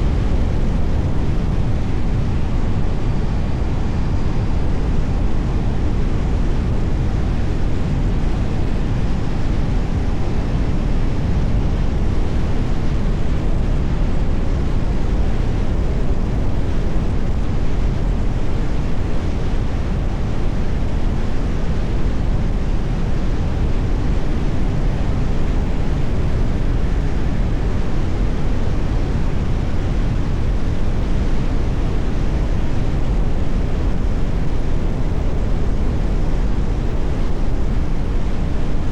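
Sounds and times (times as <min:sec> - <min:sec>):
wind on microphone: 0:00.0 - 0:38.9.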